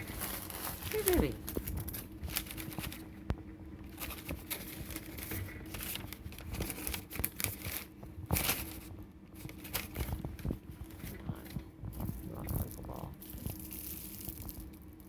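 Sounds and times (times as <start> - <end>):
faint low hum: 0.0 - 15.0
rustling and crinkling: 0.0 - 15.0.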